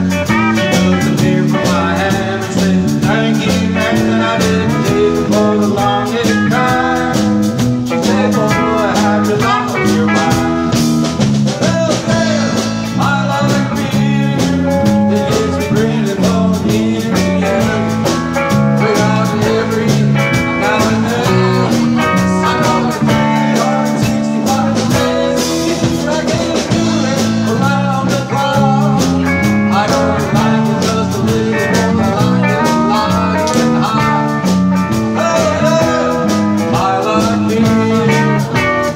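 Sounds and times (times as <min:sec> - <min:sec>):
live country band playing: 0:00.0 - 0:38.9
steady drum beat: 0:00.0 - 0:38.9.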